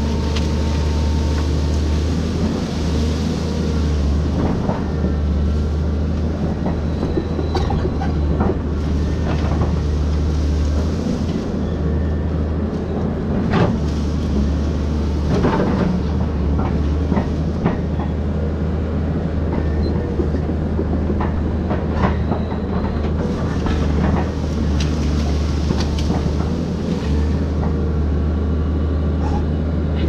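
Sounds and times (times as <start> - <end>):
trees cracking and clunking: 0.0 - 28.6
excavator diesel engine running: 0.0 - 30.0.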